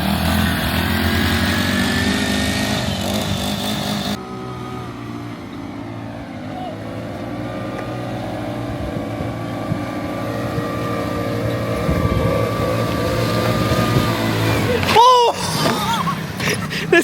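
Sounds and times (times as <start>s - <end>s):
small engine running with whine: 0.0s - 17.0s.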